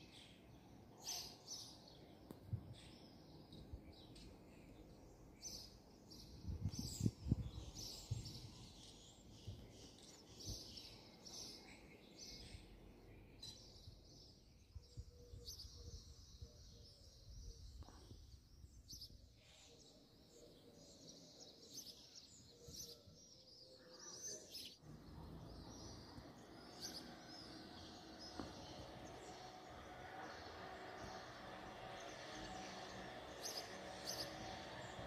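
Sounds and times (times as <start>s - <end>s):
low outdoor background noise: 0.0s - 35.0s.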